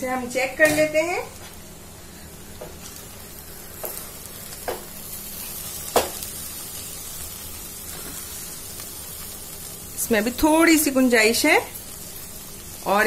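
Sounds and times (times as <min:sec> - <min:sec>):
soft steady sizzle: 0:00.0 - 0:13.0.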